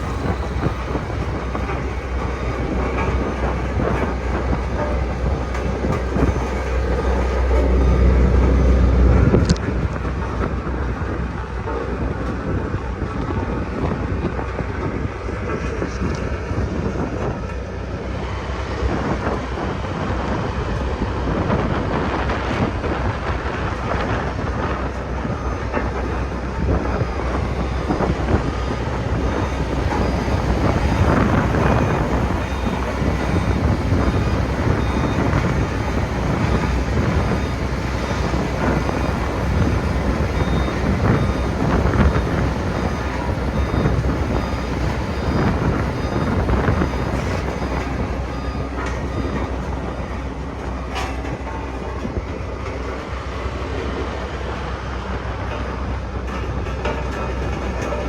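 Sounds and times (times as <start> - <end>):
road roller engine rumble: 0.0 - 58.0.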